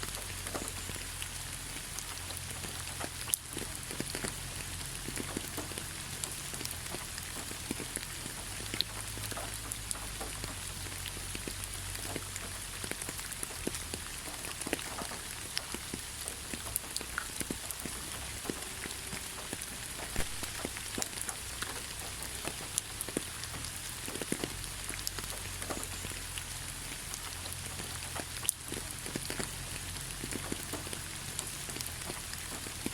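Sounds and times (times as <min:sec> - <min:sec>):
rain falling in a forest: 0:00.0 - 0:32.9
raindrops ticking sharply: 0:00.0 - 0:32.9.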